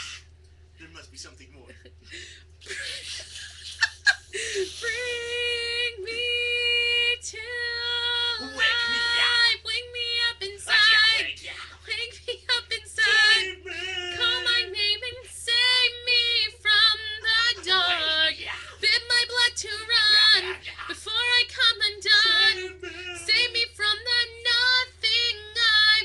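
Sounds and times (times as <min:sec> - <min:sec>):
faint low hum: 0:00.0 - 0:26.0
girl singing unaccompanied: 0:04.8 - 0:26.0.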